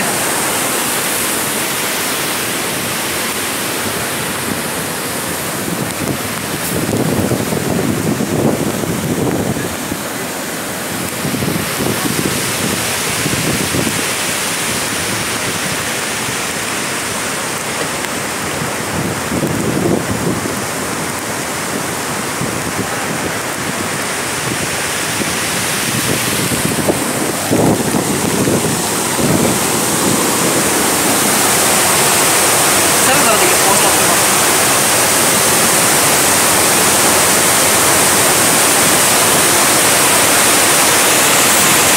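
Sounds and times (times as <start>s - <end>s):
rain: 0.0s - 41.9s
water pouring over spillway: 0.0s - 41.9s
wind gusting on microphone: 0.0s - 41.9s.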